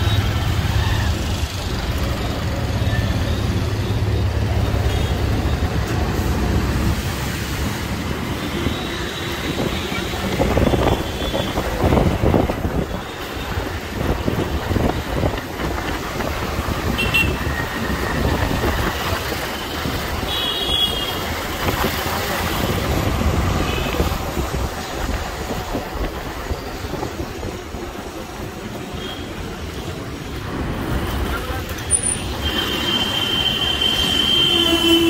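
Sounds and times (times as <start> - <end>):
road noise: 0.0 - 35.0.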